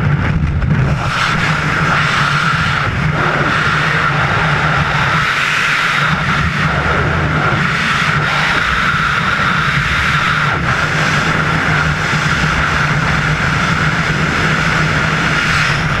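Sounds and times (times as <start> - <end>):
wind rushing on camera: 0.0 - 16.0.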